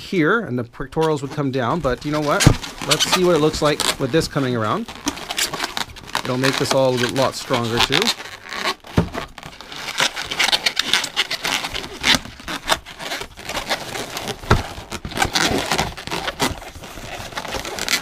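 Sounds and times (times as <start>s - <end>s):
balloons squeaking and rubbing: 0.0s - 18.0s.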